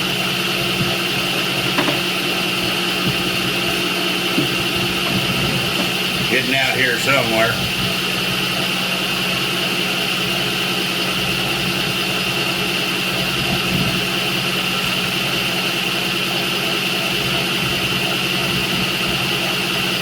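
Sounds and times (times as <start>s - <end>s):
milling machine whining hum: 0.0s - 20.0s.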